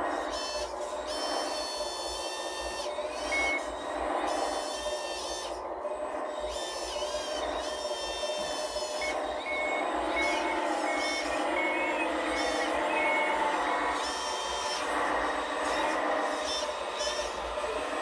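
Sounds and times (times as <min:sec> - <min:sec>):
simulated diesel engine: 0:00.0 - 0:18.0
reversing alarm beeps: 0:00.2 - 0:18.0.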